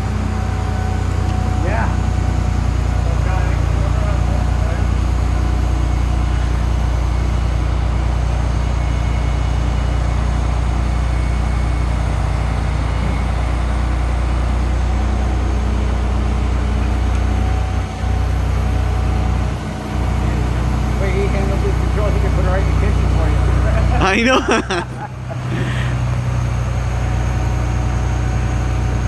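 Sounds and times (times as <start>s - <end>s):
vehicle engine humming: 0.0s - 28.5s.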